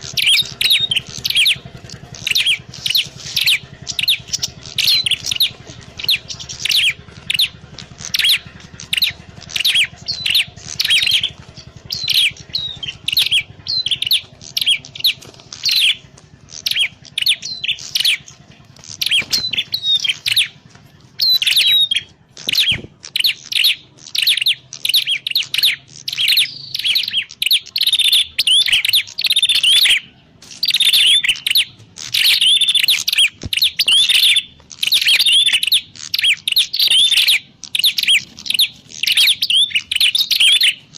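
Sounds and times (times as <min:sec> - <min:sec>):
bird sharp chirps: 0:00.0 - 0:40.9.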